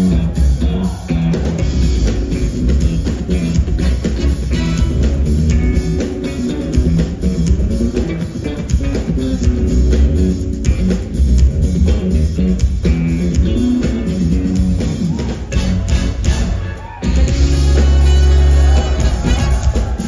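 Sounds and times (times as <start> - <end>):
electric guitar: 0.0 - 20.0
funk band playing: 0.0 - 20.0.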